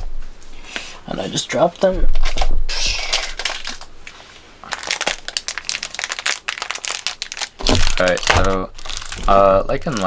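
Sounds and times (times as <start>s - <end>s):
packaging crinkling: 1.8s - 10.0s.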